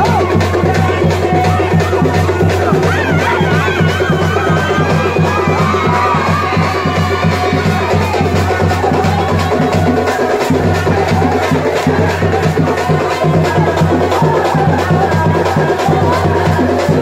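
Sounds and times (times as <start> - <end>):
loud dance music: 0.0 - 17.0.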